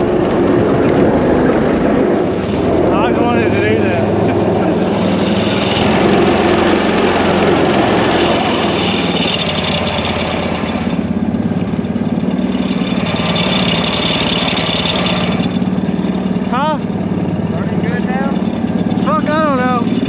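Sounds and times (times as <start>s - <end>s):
small engine running steadily: 0.0s - 20.0s.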